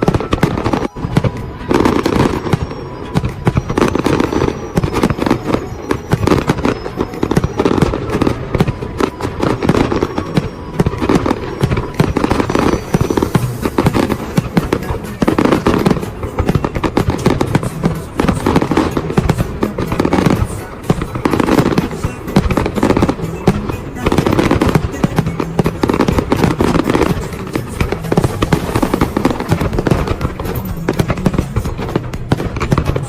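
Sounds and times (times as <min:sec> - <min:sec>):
fireworks bangs and crackling: 0:00.0 - 0:33.0.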